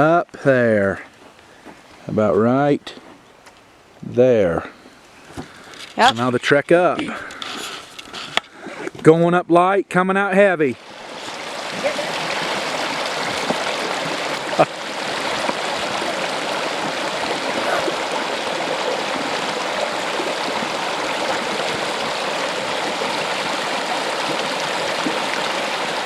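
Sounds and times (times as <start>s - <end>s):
flowing water rushing: 3.7s - 26.0s.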